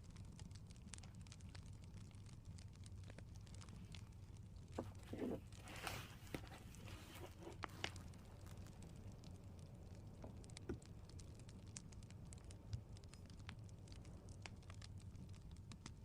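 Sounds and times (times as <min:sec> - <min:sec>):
faint clicks and ticks: 0:00.0 - 0:16.0
low steady hum: 0:00.0 - 0:16.0.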